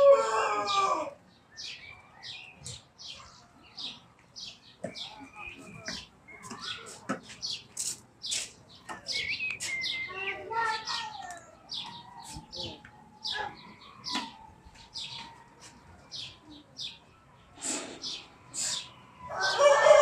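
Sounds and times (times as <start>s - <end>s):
small birds chirping: 0.4s - 19.7s.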